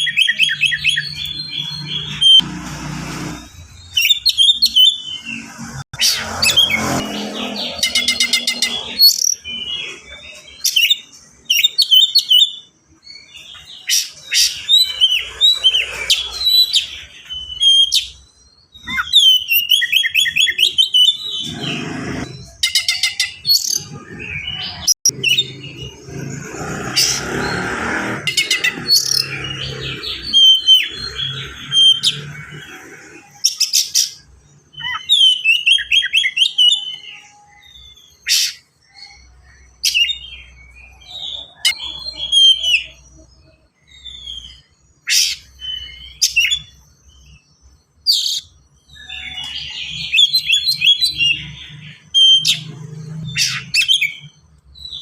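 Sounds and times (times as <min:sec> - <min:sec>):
bird singing whistles and trills: 0:00.0 - 0:02.4, 0:03.6 - 0:25.9, 0:28.3 - 0:55.0.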